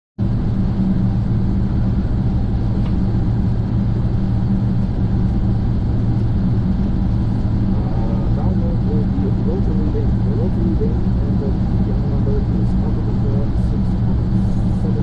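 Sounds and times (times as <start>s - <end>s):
aircraft propeller drone: 0.2s - 15.0s.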